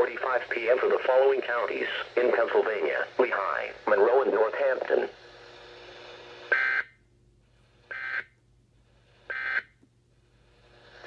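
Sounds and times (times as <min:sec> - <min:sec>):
faint radio hiss: 0:00.0 - 0:06.6, 0:07.4 - 0:11.0.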